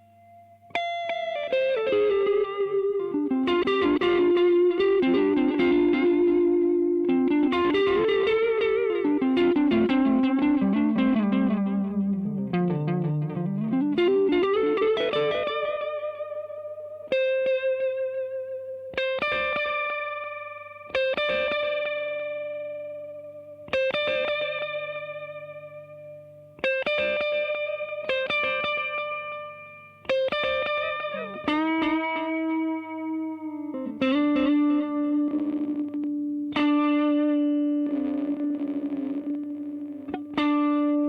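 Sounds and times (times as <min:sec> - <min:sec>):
electric guitar with echoing repeats: 0:00.0 - 0:41.0.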